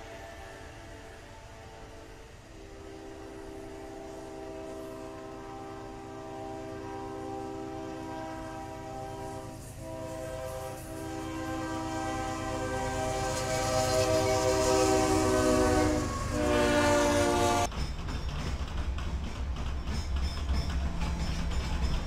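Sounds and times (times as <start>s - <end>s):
locomotive air horn blasts: 0.0s - 17.7s
railcars rumbling past: 0.0s - 22.0s.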